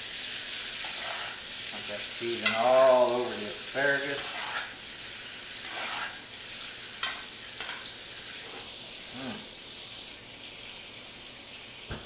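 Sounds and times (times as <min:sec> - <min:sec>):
steak sizzling in a skillet: 0:00.0 - 0:12.0.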